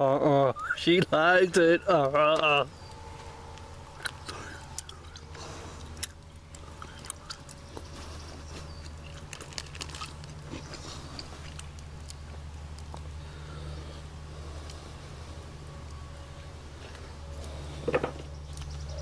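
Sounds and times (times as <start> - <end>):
low hum: 0.0 - 19.0
wood fire crackling and popping: 0.6 - 18.8.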